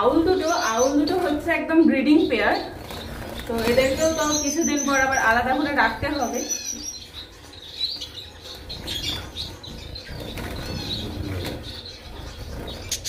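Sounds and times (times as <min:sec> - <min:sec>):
finches chirping: 0:00.0 - 0:13.0
wings fluttering: 0:00.0 - 0:13.0.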